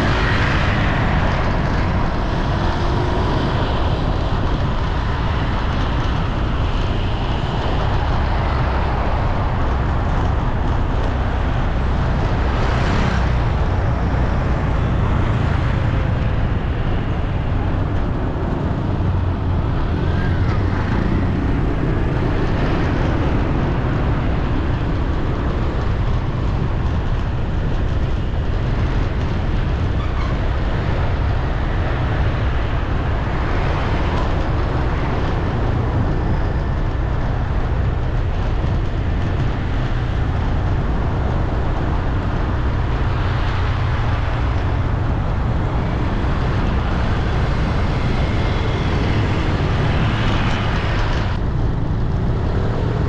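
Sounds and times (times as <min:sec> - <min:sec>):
city street traffic: 0:00.0 - 0:53.0.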